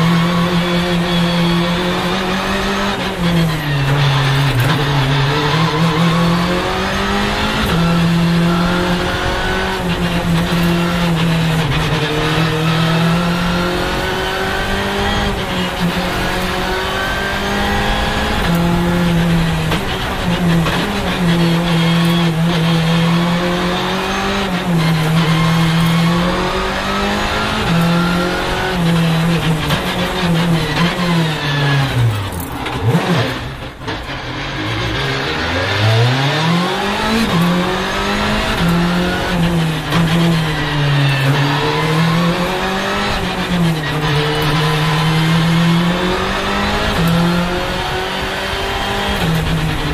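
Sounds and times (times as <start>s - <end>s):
rally car engine revving: 0.0s - 49.9s
quick gear changes: 0.2s - 49.9s.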